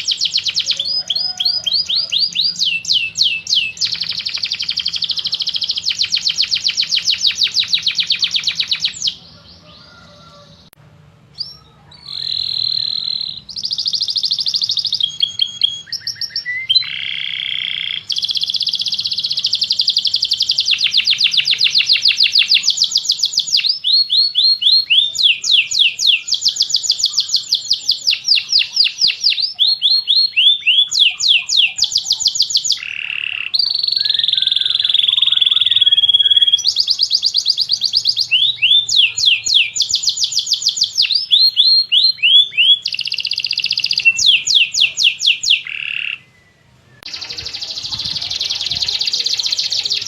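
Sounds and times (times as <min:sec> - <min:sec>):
canary singing trills: 0:00.0 - 0:50.0.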